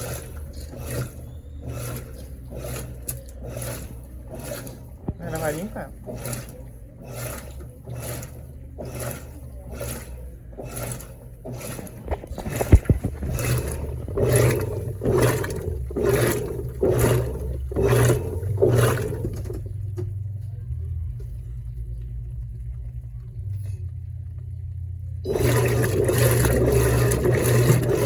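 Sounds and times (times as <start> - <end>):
water sloshing in washing machine: 0.0 - 20.5, 21.1 - 28.0
motor hum: 0.0 - 28.0.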